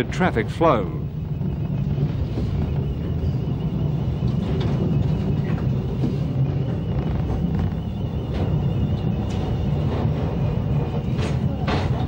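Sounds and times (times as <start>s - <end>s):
high whine: 0.0s - 11.3s
electric tram rumbling: 0.0s - 12.0s
street traffic: 0.0s - 12.0s.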